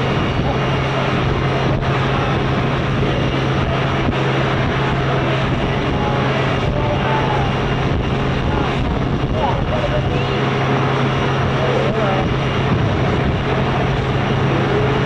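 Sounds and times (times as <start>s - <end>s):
airport ramp machinery drone: 0.0s - 15.0s
low hum: 0.0s - 15.0s.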